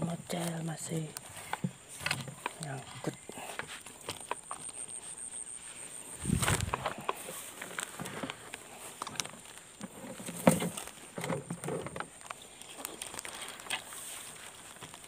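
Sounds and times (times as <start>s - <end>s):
footsteps through grass: 0.3s - 11.2s, 12.1s - 15.0s.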